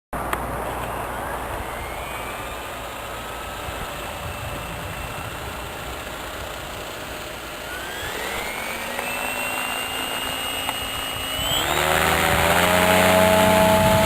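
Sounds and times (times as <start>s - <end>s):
electric motor and gear whine: 0.2s - 14.0s
helicopter rotor: 0.2s - 14.0s.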